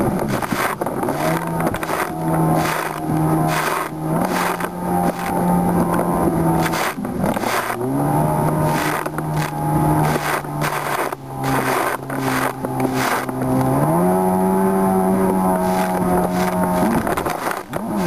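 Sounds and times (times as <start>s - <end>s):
hull slapping waves: 0.0s - 18.0s
jet ski engine: 0.0s - 18.0s.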